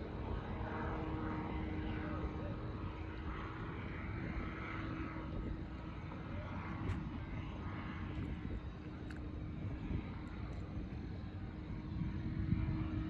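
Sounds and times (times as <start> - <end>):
paramotor engine and propeller: 0.0 - 13.0
wind rumbling on microphone: 0.0 - 13.0.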